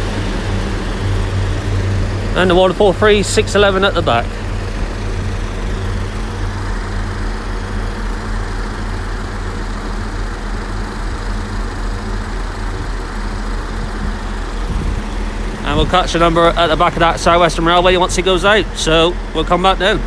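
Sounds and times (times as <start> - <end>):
train engines idling: 0.0 - 20.0.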